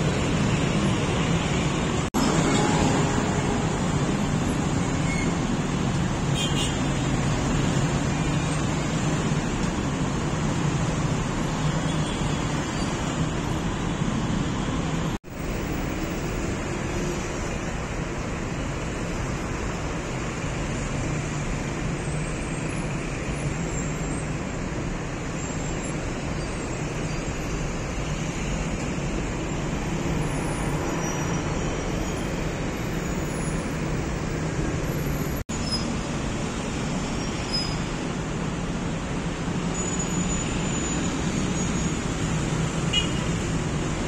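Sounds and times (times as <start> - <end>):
expressway traffic noise: 0.0 - 44.0.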